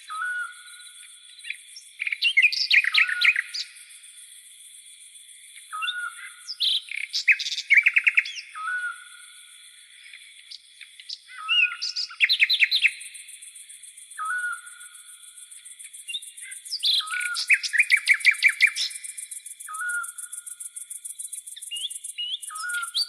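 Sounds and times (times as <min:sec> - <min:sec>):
insects trilling: 0:00.0 - 0:23.0
songbirds singing: 0:00.0 - 0:23.0.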